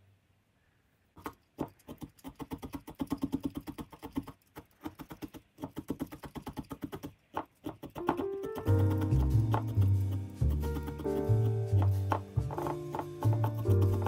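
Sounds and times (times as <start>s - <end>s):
felting needle soft taps: 1.2s - 14.0s.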